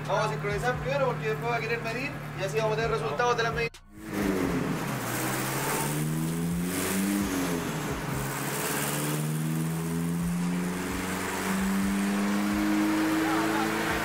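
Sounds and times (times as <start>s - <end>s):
car engine revving under load: 0.0s - 14.0s.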